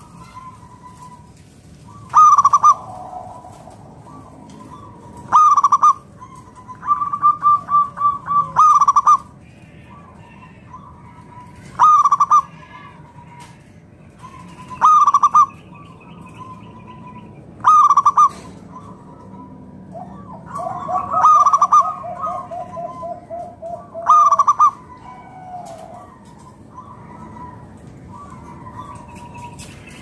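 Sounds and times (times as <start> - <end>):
dove cooing: 0.0 - 30.0.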